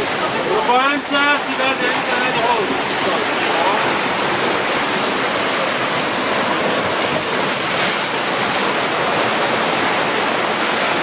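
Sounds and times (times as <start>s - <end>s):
surf breaking on rocky shore: 0.0s - 11.0s.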